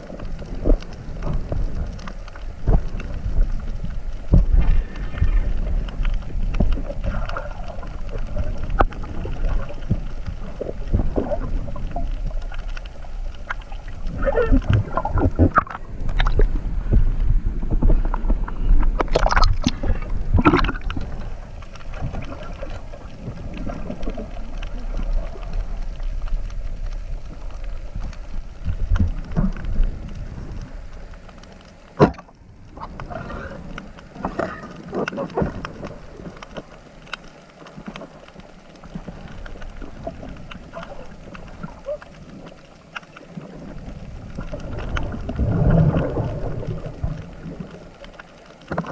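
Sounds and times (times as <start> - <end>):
water sloshing and gurgling: 0.0 - 48.9.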